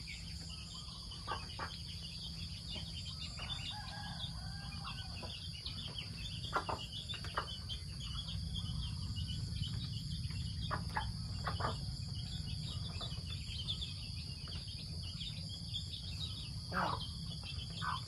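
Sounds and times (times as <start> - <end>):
hen and ducklings calling: 0.0 - 18.0
low steady rumble: 0.0 - 18.0.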